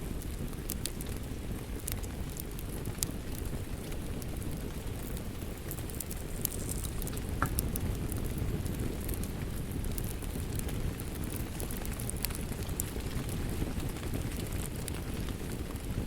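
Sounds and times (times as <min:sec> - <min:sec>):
rain pattering: 0:00.0 - 0:16.0
wood fire crackling: 0:00.0 - 0:16.0.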